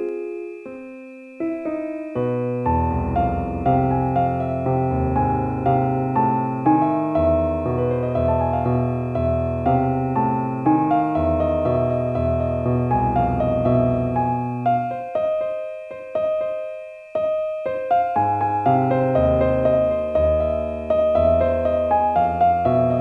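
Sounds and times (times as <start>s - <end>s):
slow gentle piano: 0.0s - 23.0s.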